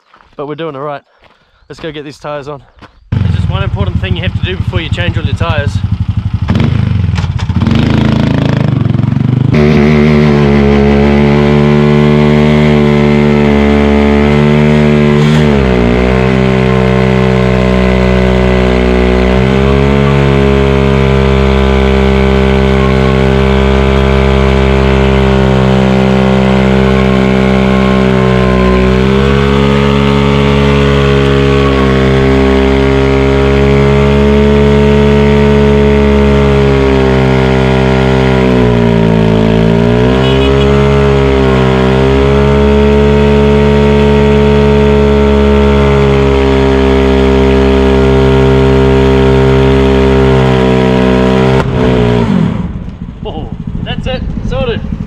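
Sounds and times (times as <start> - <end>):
motorcycle engine revving high: 3.1 - 55.0.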